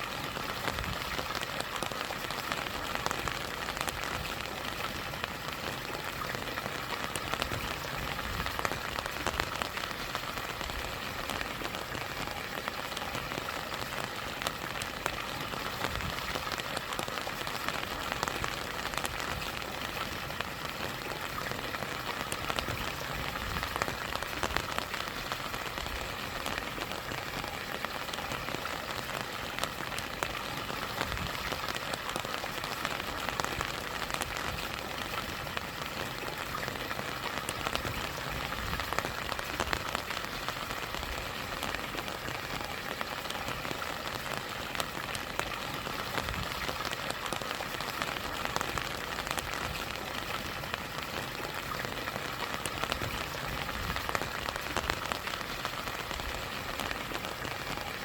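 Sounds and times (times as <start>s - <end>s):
rain drops ticking: 0.0s - 58.0s
small waterfall: 0.0s - 58.0s.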